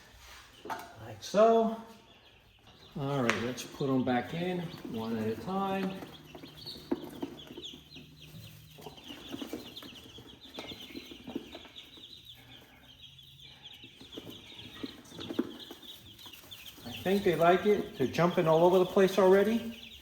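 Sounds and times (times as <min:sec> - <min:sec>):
baby chicks peeping: 0:00.0 - 0:20.0.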